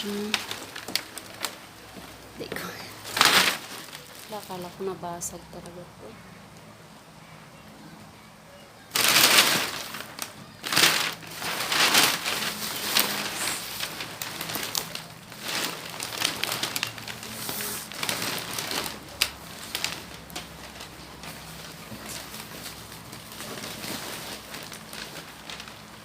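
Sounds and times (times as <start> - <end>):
plastic wrap crinkling: 0.0 - 6.0, 8.8 - 26.0.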